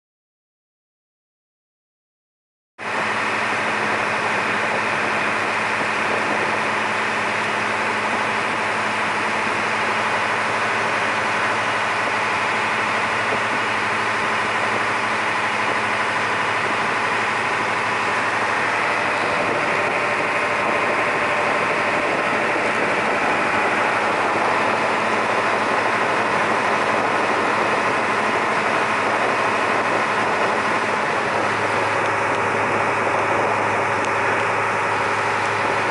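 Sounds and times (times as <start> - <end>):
ferry engine humming: 2.8 - 35.9
steady rushing noise: 2.8 - 35.9.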